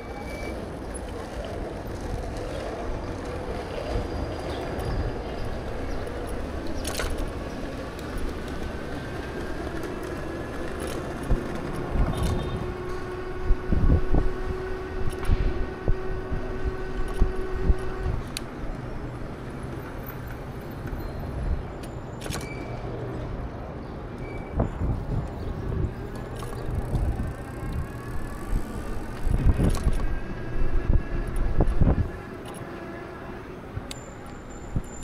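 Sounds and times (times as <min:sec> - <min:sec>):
city traffic: 0:00.0 - 0:35.0
wind and road rumble: 0:00.0 - 0:35.0.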